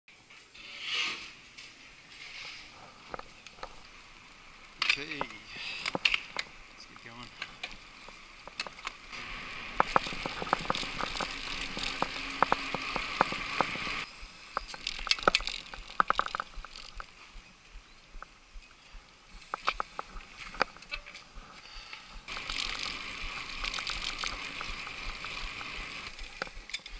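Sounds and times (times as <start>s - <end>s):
steady rushing hiss: 1.3s - 26.9s
bike clicking and rattling: 1.6s - 26.9s.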